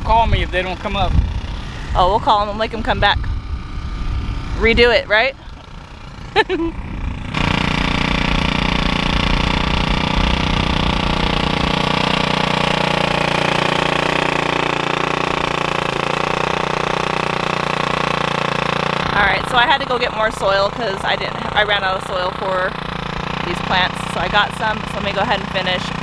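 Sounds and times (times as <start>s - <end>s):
garden tiller engine running: 0.0s - 26.0s.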